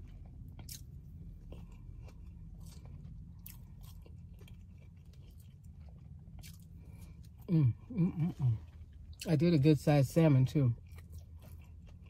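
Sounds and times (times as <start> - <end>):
chewing crunchy taco shell: 0.0 - 12.0
low steady hum: 0.0 - 12.0.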